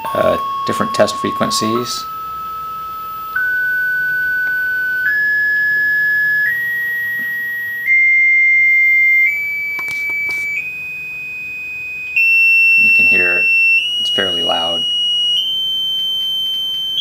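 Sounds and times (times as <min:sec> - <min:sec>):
motor tone stepping up in pitch: 0:00.0 - 0:17.0.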